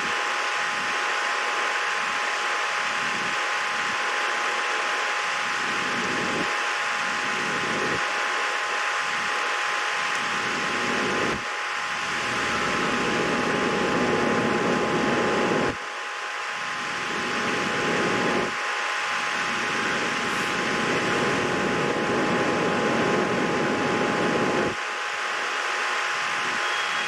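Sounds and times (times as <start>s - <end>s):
mechanical whir with high hum: 0.0s - 27.0s.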